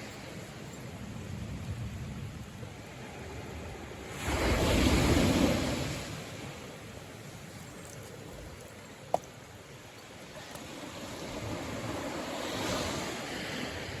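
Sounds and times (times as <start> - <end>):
sea waves washing ashore: 0.0 - 14.0.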